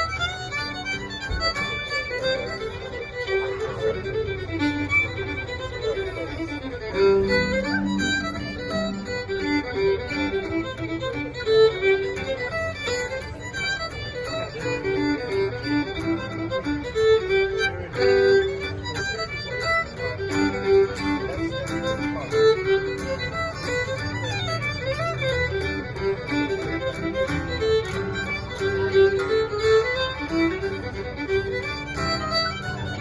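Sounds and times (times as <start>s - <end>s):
fiddle melody: 0.0s - 33.0s
guitar accompaniment: 0.0s - 33.0s.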